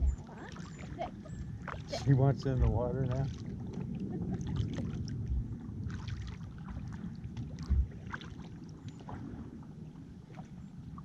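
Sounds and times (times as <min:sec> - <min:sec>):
paddle splashing in water: 0:00.0 - 0:11.0
wind on microphone: 0:00.0 - 0:11.0.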